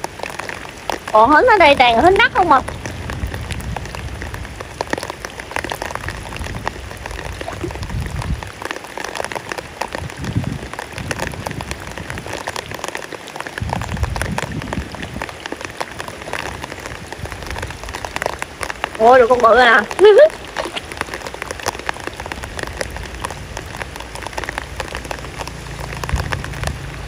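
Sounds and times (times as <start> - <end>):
heavy rain on water: 0.0 - 27.0.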